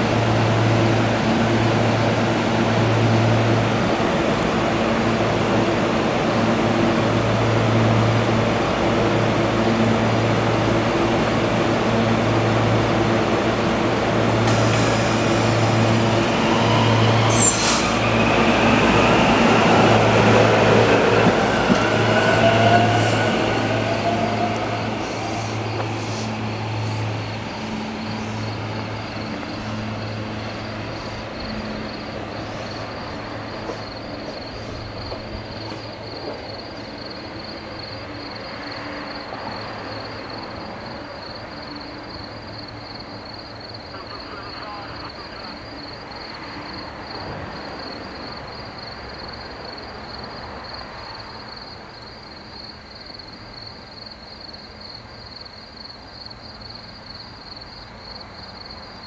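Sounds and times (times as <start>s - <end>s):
electric train passing: 0.0s - 59.0s.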